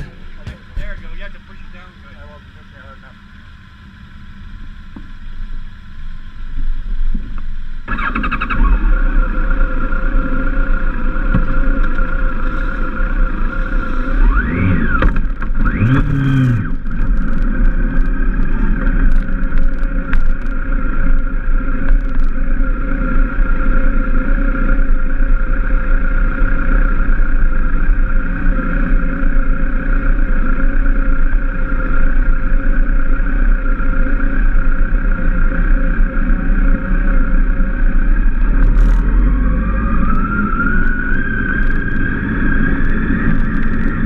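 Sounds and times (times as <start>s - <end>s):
motorcycle engine running: 0.0s - 44.0s
engine revving: 7.8s - 44.0s.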